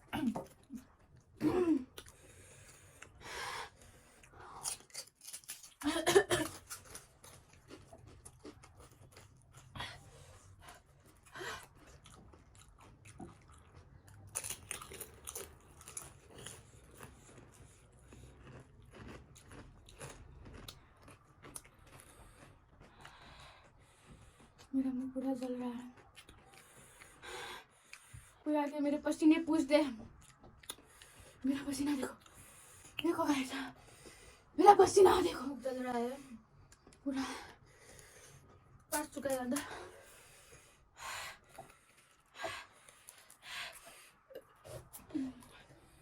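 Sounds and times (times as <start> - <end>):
chewing and crunching: 0.0 - 28.4, 29.9 - 34.5, 36.3 - 46.0.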